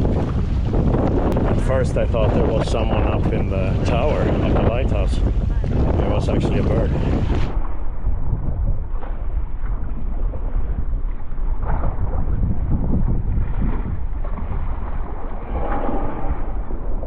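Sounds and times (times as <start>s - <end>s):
waves splashing against kayak: 0.0s - 17.0s
wind rumbling on microphone: 0.0s - 17.0s.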